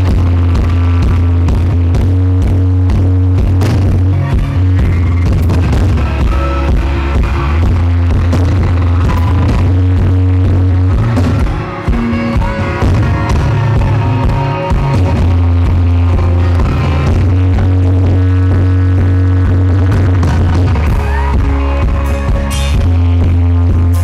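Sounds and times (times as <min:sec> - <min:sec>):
distorted live rock band: 0:00.0 - 0:24.0.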